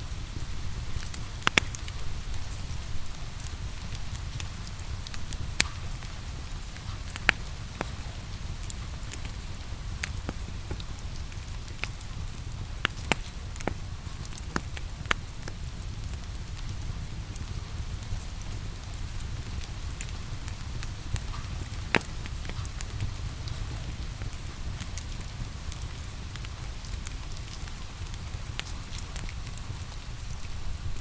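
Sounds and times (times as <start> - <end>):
rain hissing: 0.0 - 31.0
wood fire crackling: 0.0 - 31.0
sharp pops of fire: 0.2 - 17.5, 18.5 - 29.3.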